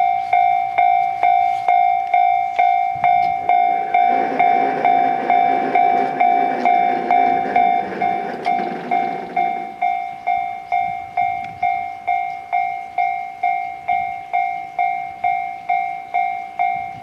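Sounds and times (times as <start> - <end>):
level crossing warning bell: 0.0 - 17.0
train rumbling past: 0.0 - 17.0.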